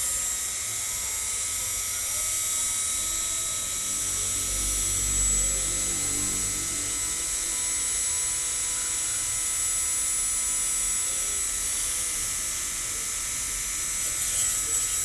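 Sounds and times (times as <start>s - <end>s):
hand grinder whining: 0.0s - 15.0s.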